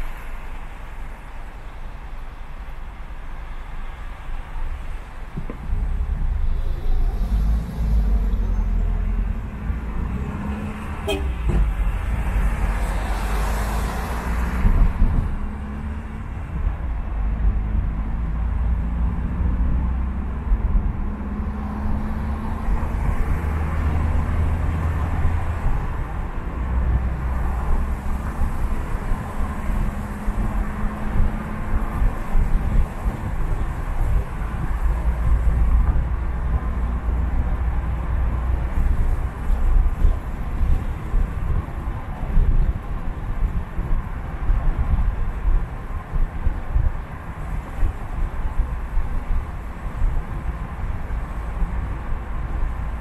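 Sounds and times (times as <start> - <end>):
traffic rumble: 0.0 - 53.0.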